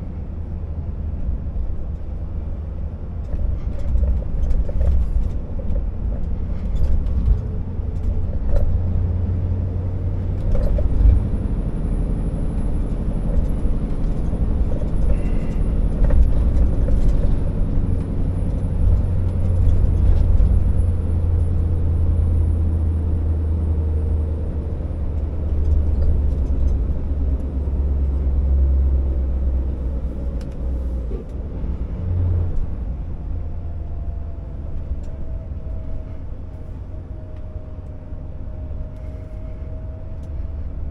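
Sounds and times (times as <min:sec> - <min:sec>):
diesel truck engine droning: 0:00.0 - 0:40.9.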